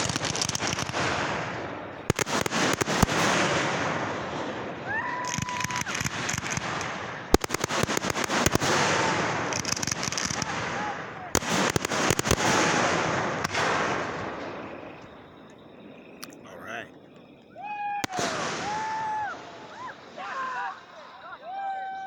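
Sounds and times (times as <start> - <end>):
fireworks bangs: 0.0 - 22.0
fireworks crackling: 0.0 - 22.0
rising firework whistle: 2.1 - 16.4, 17.2 - 22.0.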